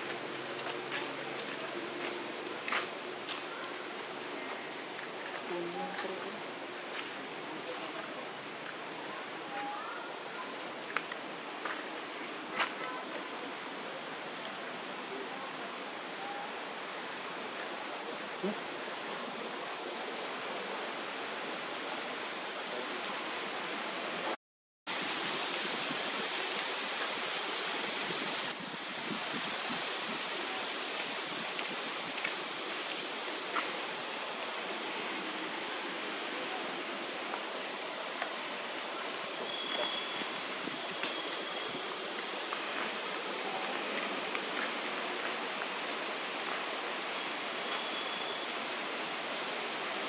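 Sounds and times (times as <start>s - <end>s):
outdoor background hiss: 0.0s - 50.0s.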